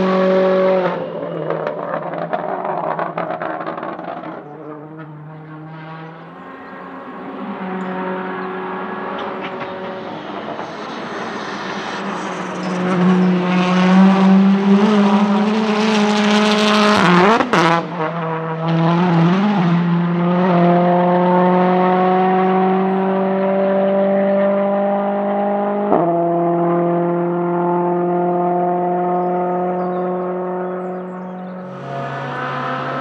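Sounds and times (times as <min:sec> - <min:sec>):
race car accelerating past: 0:00.0 - 0:33.0.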